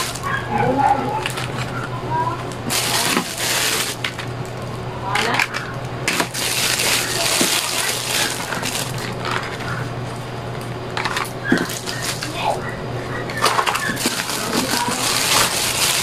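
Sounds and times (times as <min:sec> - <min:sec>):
plastic bags crinkling: 0:00.0 - 0:01.8, 0:02.4 - 0:04.8, 0:05.4 - 0:12.4, 0:13.4 - 0:16.0.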